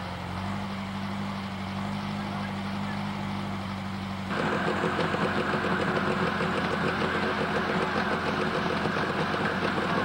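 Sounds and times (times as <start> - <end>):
dune buggy engine idling: 0.0 - 10.0.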